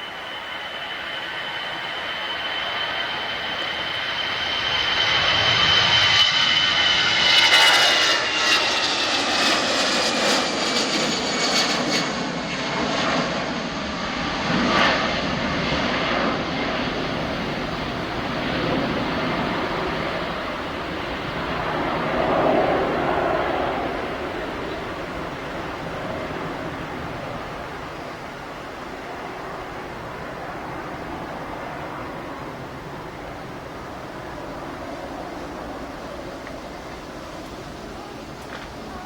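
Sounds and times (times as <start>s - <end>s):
airliner engines passing: 0.0s - 39.0s.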